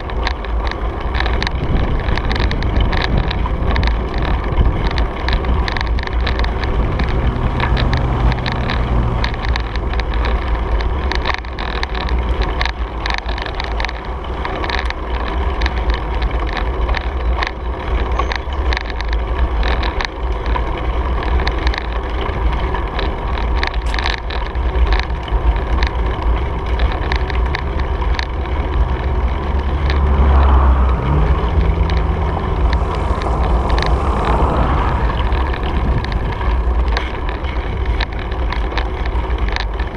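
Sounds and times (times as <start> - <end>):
bicycle rolling rumble: 0.0 - 39.9
bike clicks and rattles: 0.0 - 39.9
low engine hum: 0.0 - 39.9
wind buffeting microphone: 0.0 - 39.9.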